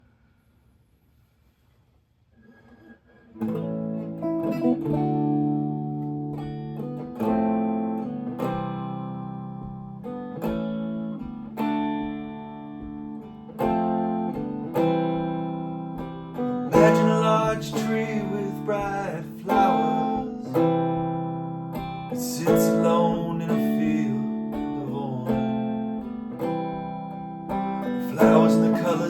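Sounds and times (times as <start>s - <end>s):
acoustic guitar strumming chords: 3.4s - 29.0s.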